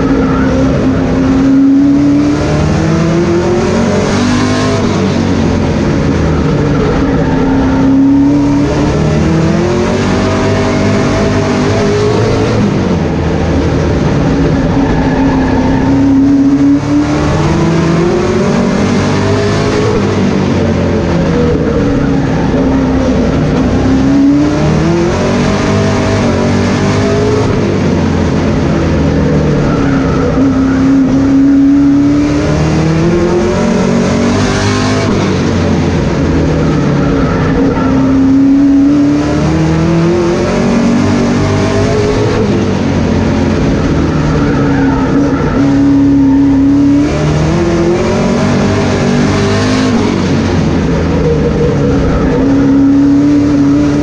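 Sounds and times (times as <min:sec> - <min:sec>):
race car engine at speed: 0:00.0 - 0:54.0.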